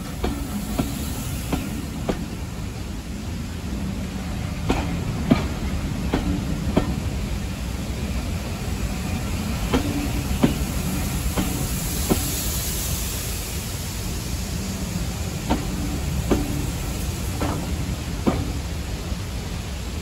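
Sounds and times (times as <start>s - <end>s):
steam hissing: 0.0s - 20.0s
train coaches rumbling past: 0.0s - 20.0s.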